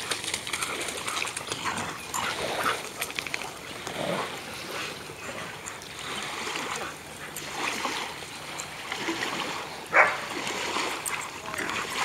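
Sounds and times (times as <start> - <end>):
paws pattering in water and mud: 0.0 - 12.0
water splashing: 0.0 - 12.0.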